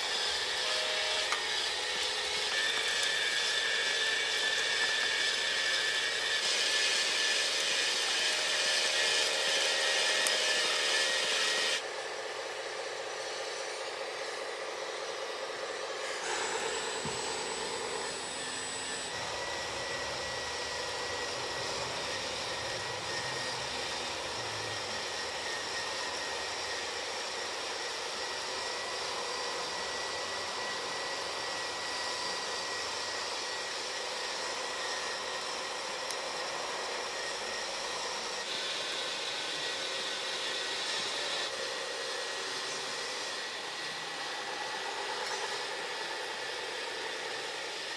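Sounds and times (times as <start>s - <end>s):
conveyor whirring: 0.0s - 47.9s
thin electric whine: 0.0s - 47.9s.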